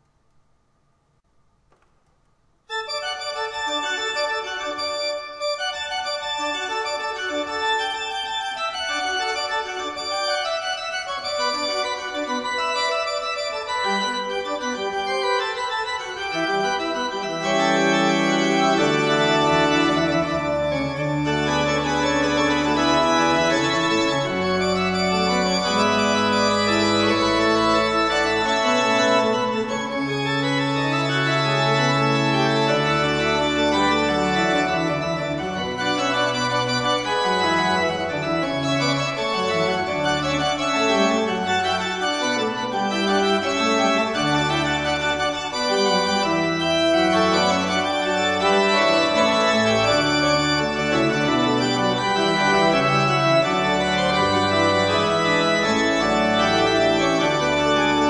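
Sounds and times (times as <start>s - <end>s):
pipe organ runs: 2.7s - 58.0s
organ pedal bass notes: 2.8s - 58.0s.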